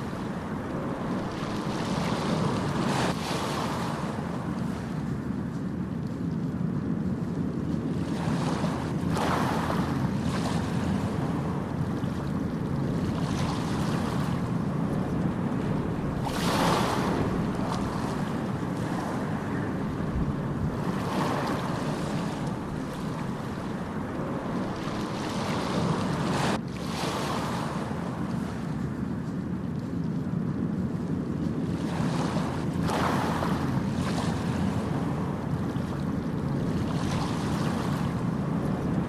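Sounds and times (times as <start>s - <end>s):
ocean waves washing in: 0.0s - 39.0s.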